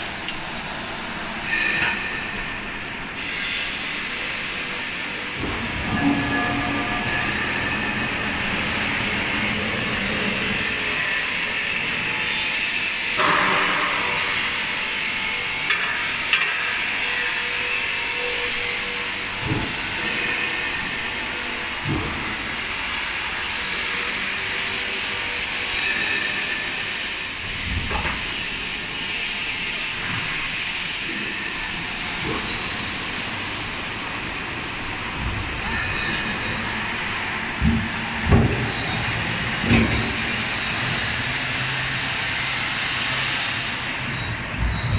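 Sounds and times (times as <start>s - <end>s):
factory machinery hiss and hum: 0.0s - 44.9s.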